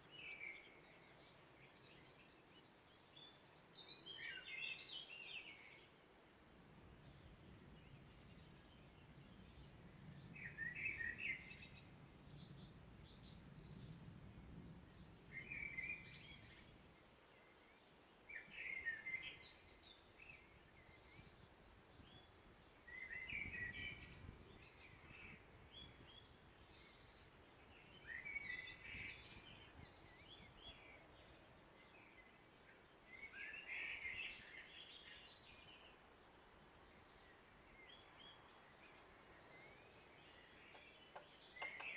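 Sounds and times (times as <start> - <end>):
songbird singing: 0.0 - 6.2, 6.8 - 41.9.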